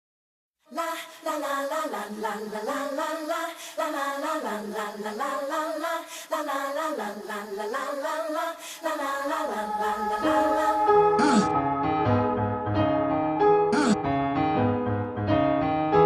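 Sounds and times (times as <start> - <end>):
a cappella vocal line: 0.7 - 14.0.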